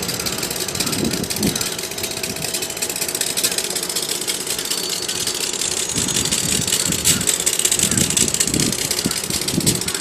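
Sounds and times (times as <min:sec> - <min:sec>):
train low uneven rumble: 0:00.0 - 0:10.0.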